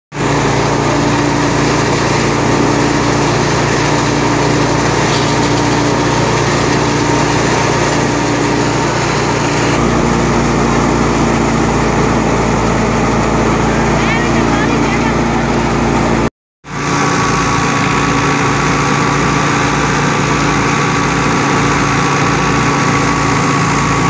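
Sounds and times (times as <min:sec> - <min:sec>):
thresher running: 0:00.1 - 0:24.0
tractor diesel engine: 0:00.1 - 0:24.0.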